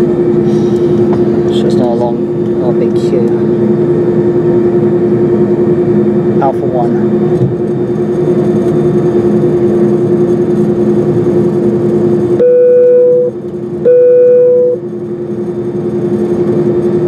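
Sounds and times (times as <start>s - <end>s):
airliner engine drone: 0.0s - 17.0s
loud steady tones: 0.0s - 17.0s.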